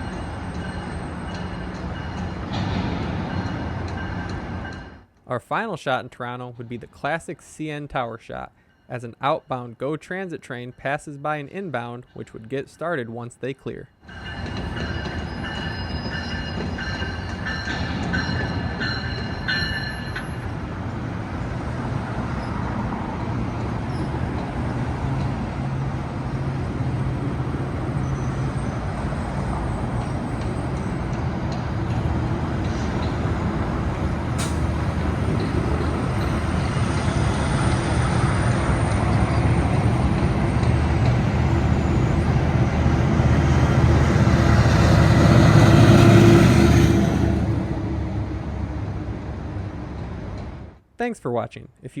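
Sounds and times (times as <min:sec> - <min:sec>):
diesel train rumbling past: 0:00.0 - 0:05.1, 0:14.0 - 0:50.8.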